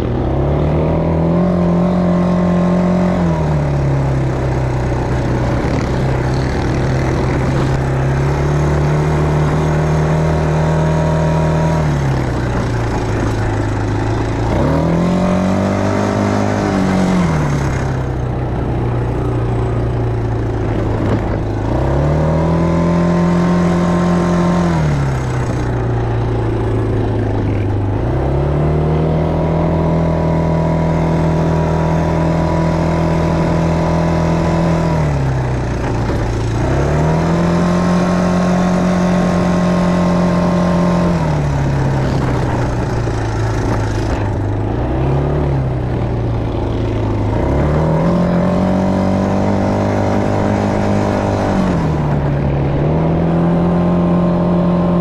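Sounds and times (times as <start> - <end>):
quad bike engine revving: 0.0 - 55.0.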